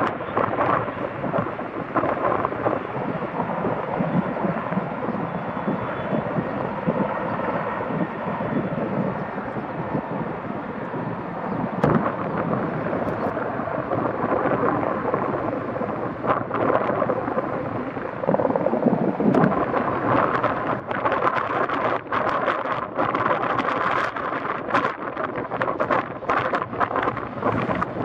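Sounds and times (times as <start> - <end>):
helicopter flying past: 0.0 - 28.0.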